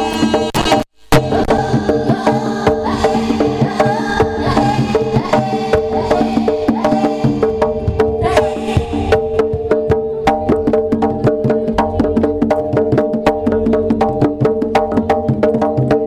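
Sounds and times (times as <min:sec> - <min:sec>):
percussion ensemble playing: 0:00.0 - 0:16.0.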